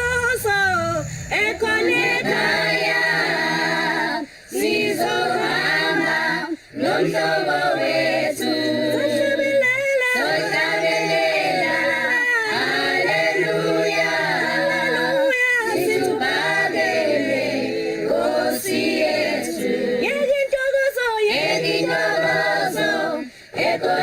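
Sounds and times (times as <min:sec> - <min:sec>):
choir singing a cappella: 0:00.0 - 0:24.0.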